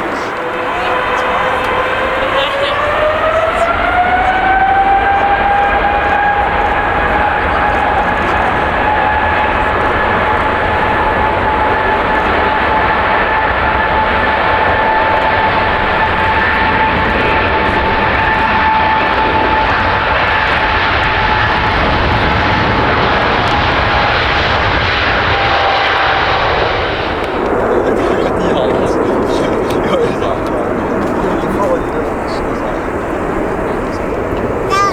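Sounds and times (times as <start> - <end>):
jet engines roaring with whine: 0.0 - 34.9.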